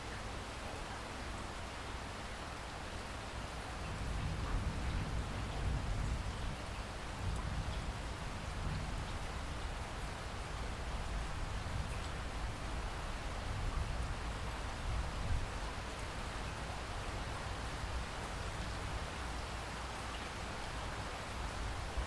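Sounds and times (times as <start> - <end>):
steady rain falling: 0.0 - 22.0
rain drops ticking: 3.5 - 22.0.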